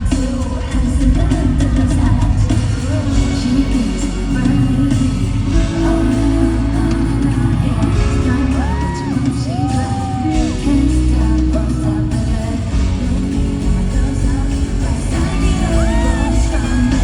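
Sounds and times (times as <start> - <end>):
loud pop music with singing: 0.0 - 17.0.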